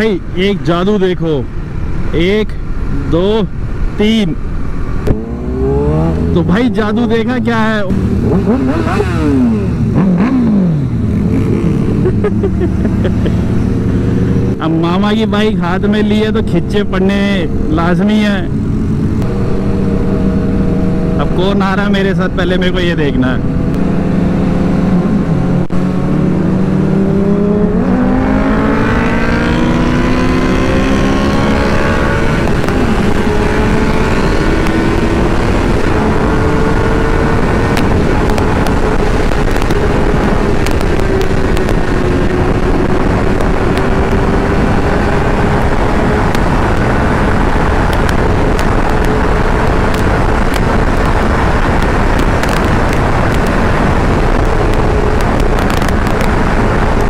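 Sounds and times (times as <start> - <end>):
heavy wind rush: 0.0 - 57.0
motorcycle engine at full throttle: 1.5 - 57.0.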